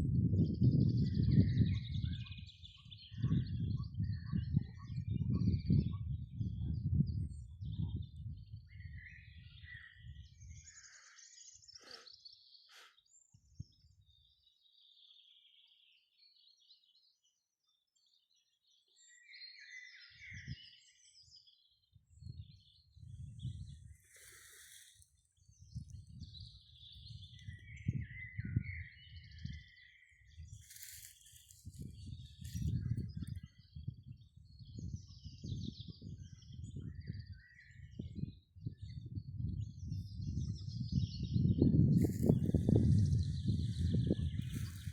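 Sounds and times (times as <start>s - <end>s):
songbirds singing and chirping: 0.0s - 44.9s.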